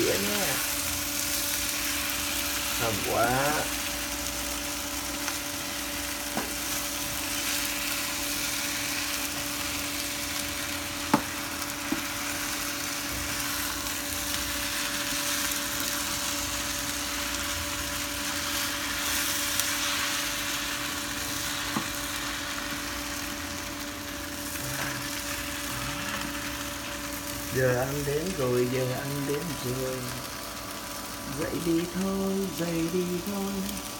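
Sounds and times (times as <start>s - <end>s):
food sizzling in frying pan: 0.0s - 33.9s.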